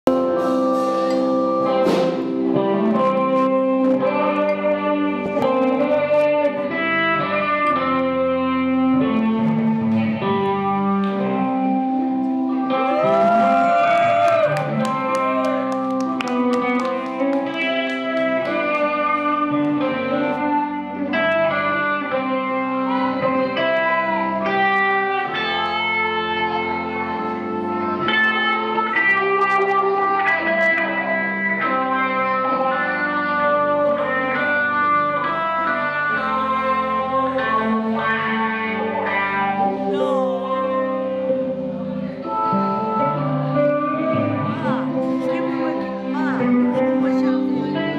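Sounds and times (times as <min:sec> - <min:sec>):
band music with guitar: 0:00.0 - 0:47.9.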